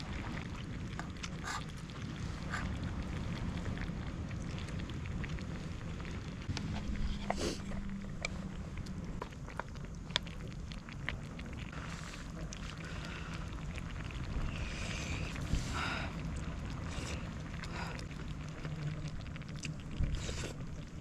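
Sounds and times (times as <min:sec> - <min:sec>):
wind rumble on microphone: 0:00.0 - 0:21.0
wood fire crackling and popping: 0:00.0 - 0:21.0.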